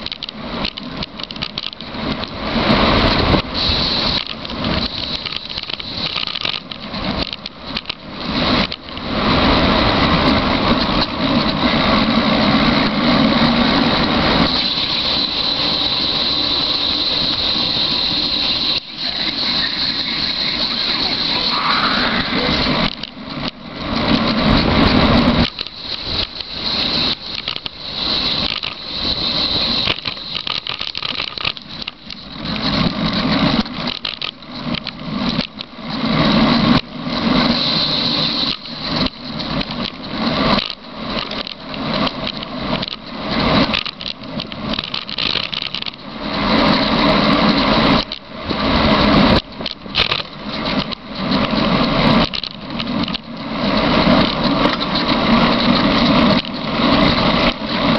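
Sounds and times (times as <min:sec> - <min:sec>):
bicycle rattling: 0:00.0 - 0:57.9
wind buffeting microphone: 0:00.0 - 0:57.9.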